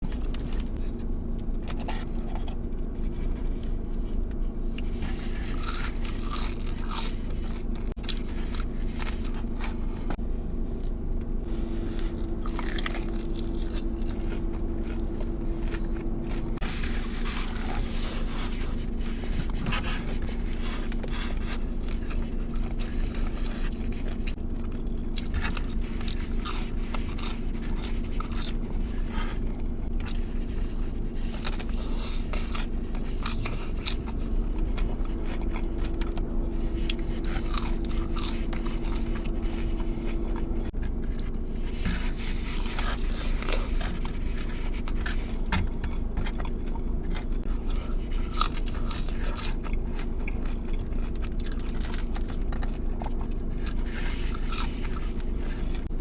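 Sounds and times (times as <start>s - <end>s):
crunching and chewing crispy food: 0.0s - 56.0s
steady low hum: 0.0s - 56.0s.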